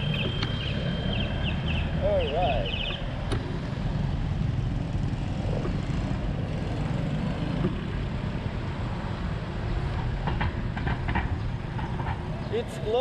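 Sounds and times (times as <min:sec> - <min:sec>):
wind rumbling over microphone: 0:00.0 - 0:13.0.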